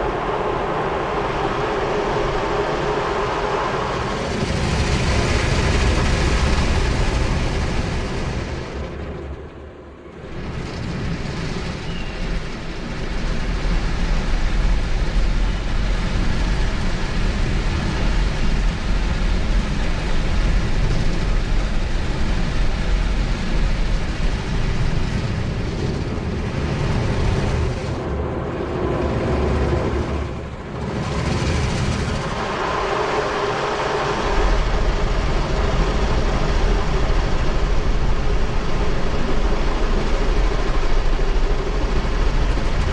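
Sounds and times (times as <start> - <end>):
car wash machinery rushing: 0.0 - 9.4, 10.1 - 42.9.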